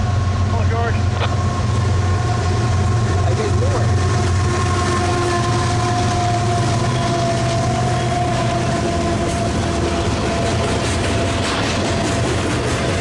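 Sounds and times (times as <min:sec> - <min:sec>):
diesel locomotive engine drone: 0:00.0 - 0:13.0
freight cars rumbling: 0:00.0 - 0:13.0
wheels clicking over rail joints: 0:02.2 - 0:13.0.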